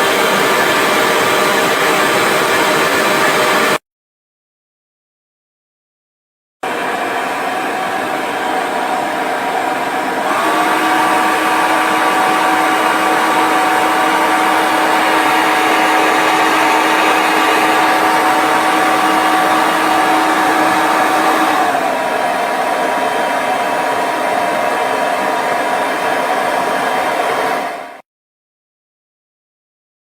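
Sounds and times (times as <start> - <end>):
hair dryer blowing: 0.0 - 3.8, 6.6 - 28.0.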